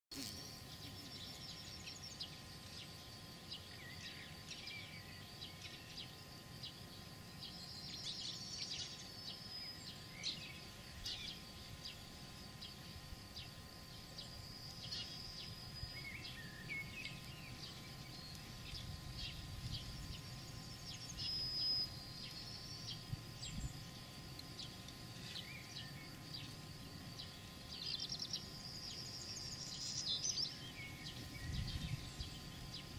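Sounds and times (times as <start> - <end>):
small birds chirping and singing: 0.2 - 32.9
steady low background noise: 0.2 - 32.9.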